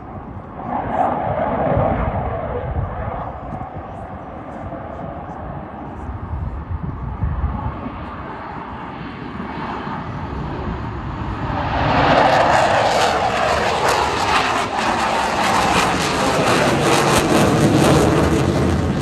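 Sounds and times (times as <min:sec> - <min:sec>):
jet fighter engines roaring: 0:00.0 - 0:19.0.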